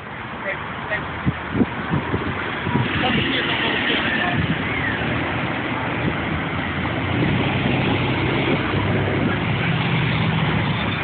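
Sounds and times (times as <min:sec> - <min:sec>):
car engines humming: 0:00.0 - 0:11.0
road noise: 0:00.0 - 0:11.0
vehicles passing close: 0:00.0 - 0:11.0.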